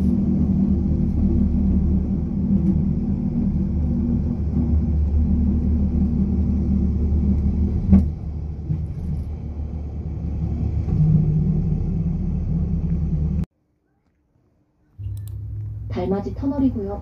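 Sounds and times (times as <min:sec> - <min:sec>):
rail car rumbling: 0:00.0 - 0:13.5, 0:15.0 - 0:17.0.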